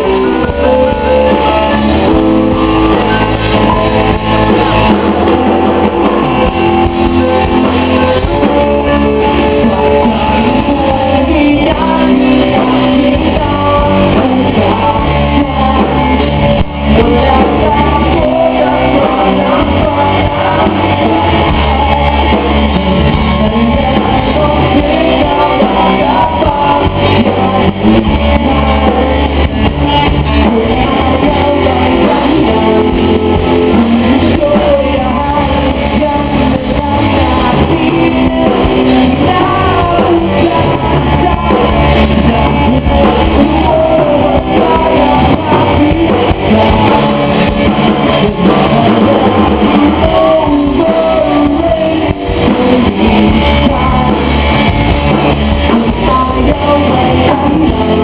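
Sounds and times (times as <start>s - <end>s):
electric guitar: 0.0s - 58.0s
live rock band playing: 0.0s - 58.0s
person singing lead vocal: 0.0s - 58.0s.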